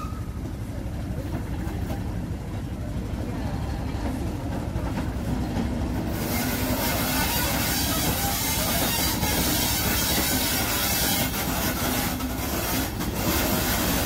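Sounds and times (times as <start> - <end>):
train engine rumble: 0.0 - 14.0
wheels rolling on rails: 0.0 - 14.0.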